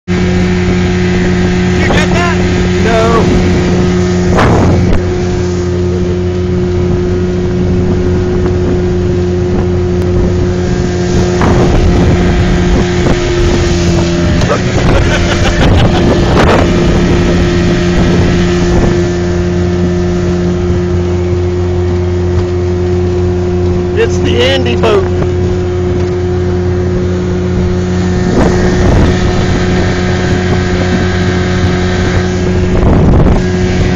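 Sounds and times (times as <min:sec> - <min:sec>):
outboard motor droning: 0:00.0 - 0:33.9
wind: 0:00.0 - 0:33.9
rushing water: 0:00.1 - 0:33.9.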